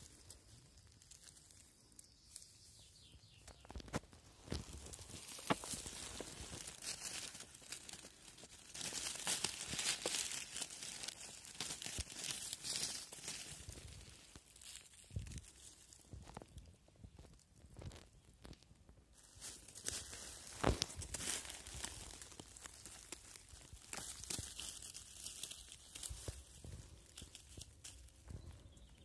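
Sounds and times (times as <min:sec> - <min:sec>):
dry leaves rustling and crunching: 0:00.0 - 0:29.0.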